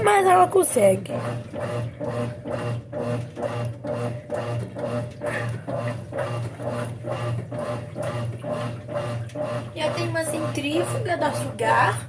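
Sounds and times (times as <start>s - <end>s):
agitator churning water: 0.0s - 12.0s
washing machine motor humming: 0.0s - 12.0s.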